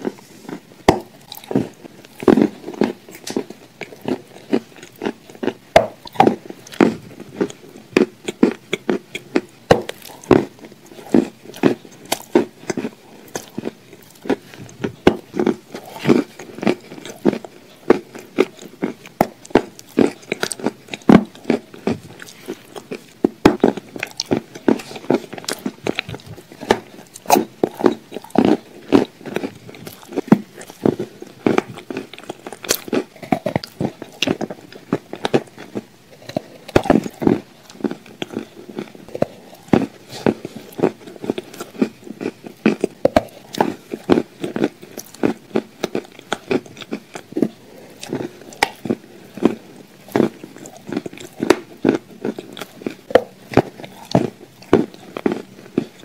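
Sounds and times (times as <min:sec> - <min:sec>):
lip smacks and chewing: 0:00.0 - 0:56.0.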